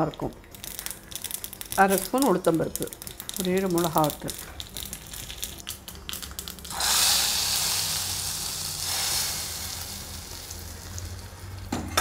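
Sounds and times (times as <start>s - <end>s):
seeds crackling in hot oil: 0.0s - 11.8s
loud sizzle: 0.0s - 12.0s.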